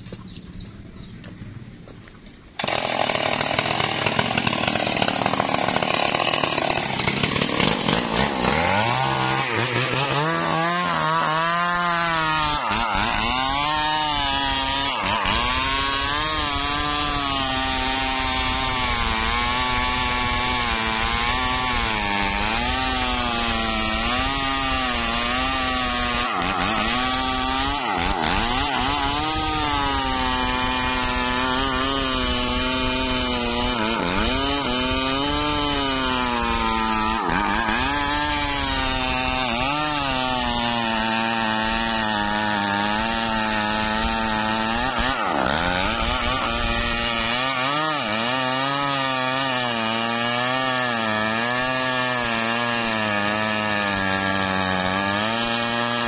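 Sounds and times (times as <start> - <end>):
chainsaw cutting tree trunk: 2.6 - 56.0.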